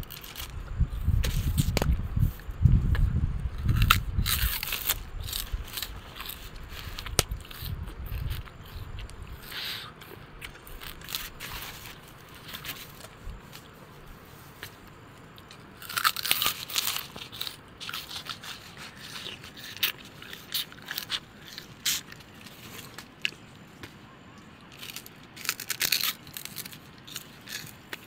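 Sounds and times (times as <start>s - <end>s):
snack crunching and crackling: 3.6s - 13.7s, 14.6s - 23.9s, 24.6s - 28.0s.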